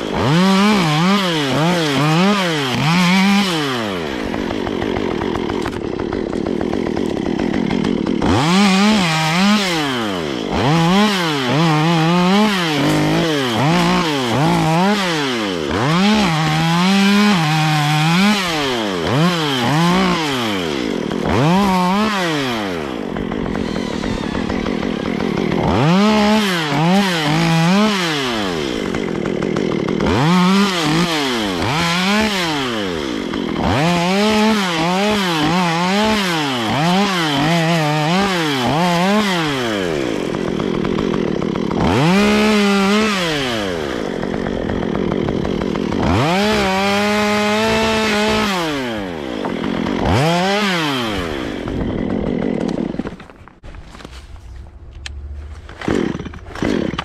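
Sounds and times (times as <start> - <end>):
chainsaw cutting branches: 0.0 - 57.0.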